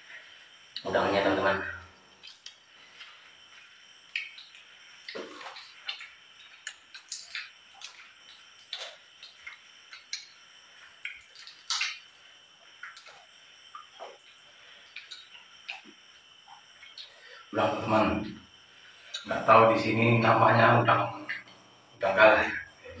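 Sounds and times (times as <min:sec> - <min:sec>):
water dripping: 0:00.7 - 0:23.0.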